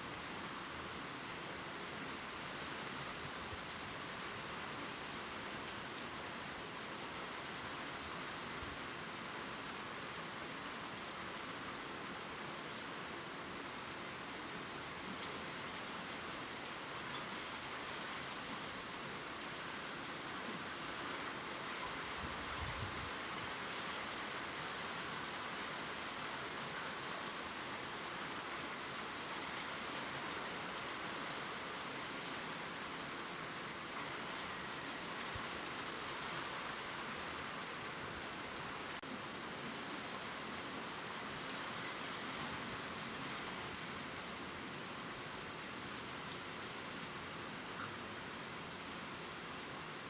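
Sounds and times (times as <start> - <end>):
rain falling on leaves: 0.0 - 50.0.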